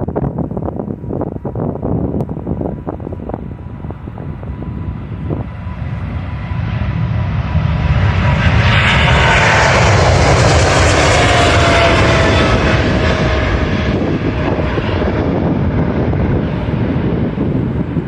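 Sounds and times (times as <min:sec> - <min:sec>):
airliner engines whining: 0:00.0 - 0:18.0.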